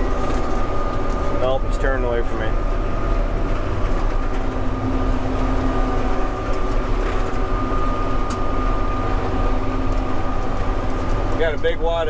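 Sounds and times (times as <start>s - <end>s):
thin steady whine: 0.0s - 12.0s
tractor diesel engine rumble: 0.0s - 12.0s.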